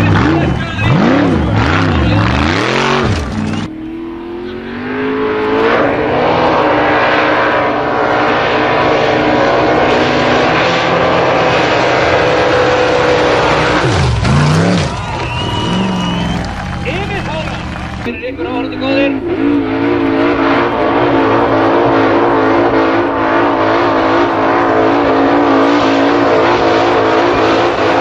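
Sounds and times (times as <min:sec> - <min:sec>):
buggy engines revving hard: 0:00.0 - 0:28.0.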